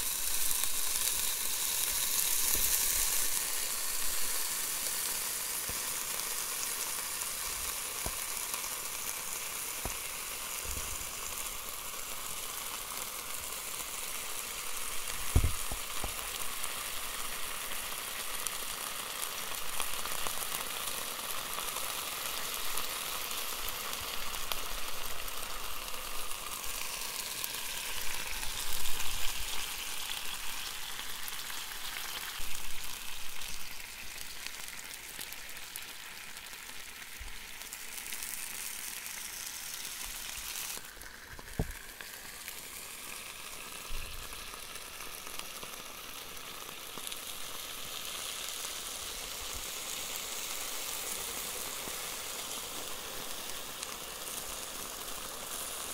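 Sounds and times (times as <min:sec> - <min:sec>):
ice cream sizzling and bubbling: 0:00.0 - 0:55.9.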